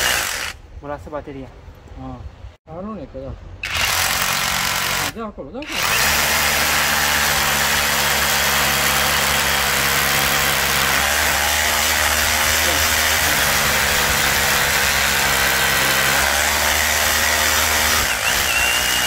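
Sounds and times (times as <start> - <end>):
rotary hammer drilling concrete: 0.0 - 0.6, 3.6 - 19.0.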